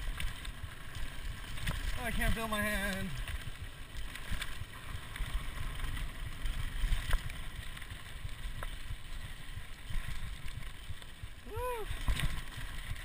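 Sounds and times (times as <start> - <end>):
bike rattling: 0.0 - 13.0
tyres on dirt: 0.0 - 13.0
wind rumbling on microphone: 0.0 - 13.0.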